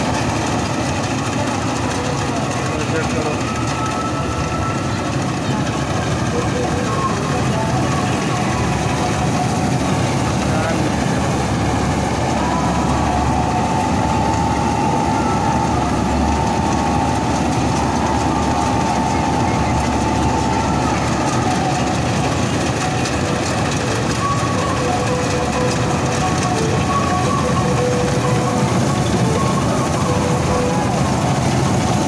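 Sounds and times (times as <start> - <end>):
combine harvester engine and threshing: 0.0 - 32.0
thin mechanical whine: 0.0 - 32.0.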